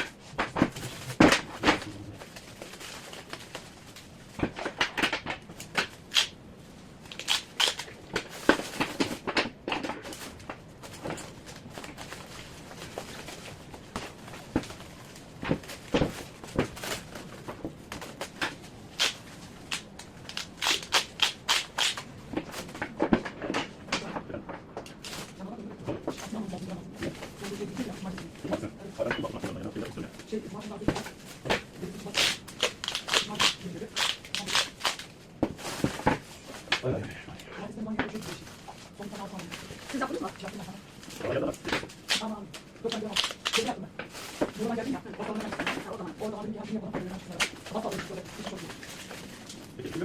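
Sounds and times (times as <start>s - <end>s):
rustling: 0.0s - 50.0s.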